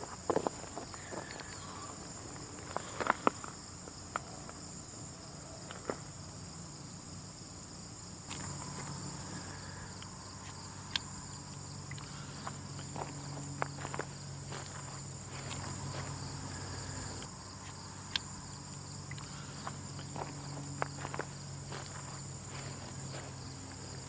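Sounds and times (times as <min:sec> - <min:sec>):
high-pitched insect hum: 0:00.0 - 0:24.0.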